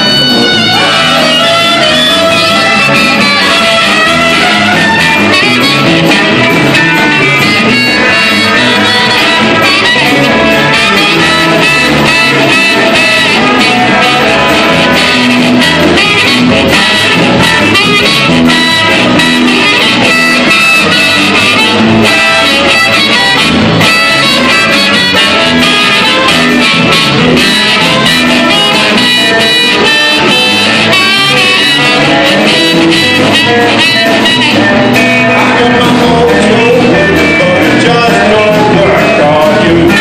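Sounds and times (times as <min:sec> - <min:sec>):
drums: 0:00.0 - 0:40.0
electric bass: 0:00.0 - 0:40.0
electric guitar: 0:00.0 - 0:40.0
harmonica: 0:00.0 - 0:40.0
trumpet: 0:00.0 - 0:40.0.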